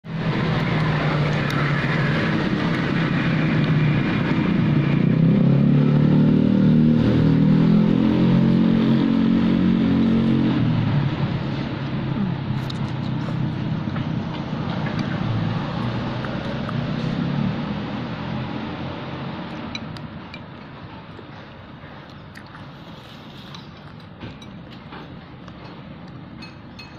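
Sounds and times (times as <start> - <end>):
vehicle engine running: 0.0 - 22.2.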